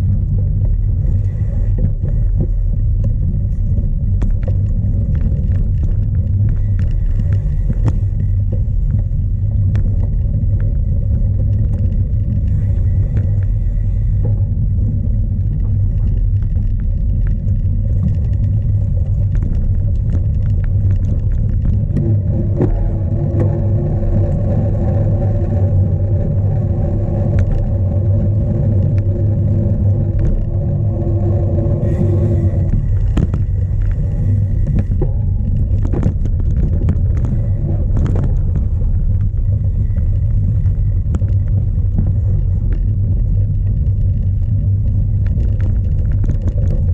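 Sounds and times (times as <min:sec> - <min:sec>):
bike rattling and knocking: 0:00.0 - 0:46.9
steady mid-pitched hum: 0:00.0 - 0:46.9
wind buffeting microphone: 0:00.0 - 0:46.9.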